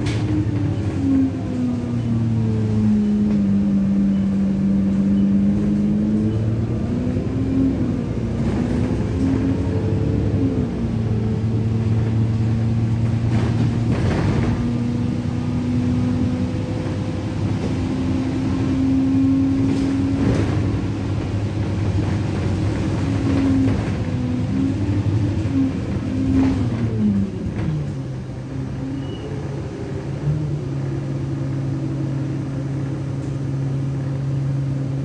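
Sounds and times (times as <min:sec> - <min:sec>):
bus engine inside cabin: 0:00.0 - 0:35.0.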